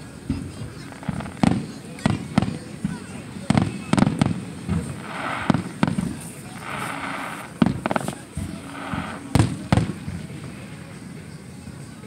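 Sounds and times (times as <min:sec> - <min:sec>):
fireworks bursting with sharp bangs: 0:00.2 - 0:11.4.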